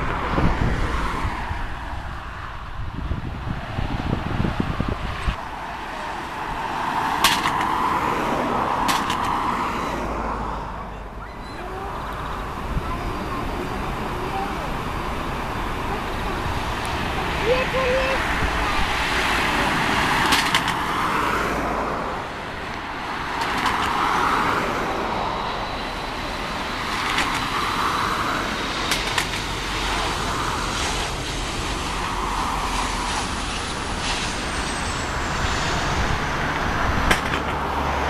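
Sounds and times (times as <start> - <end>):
jet engine rumble and whine: 0.0 - 38.0
wind gusts on microphone: 0.0 - 38.0.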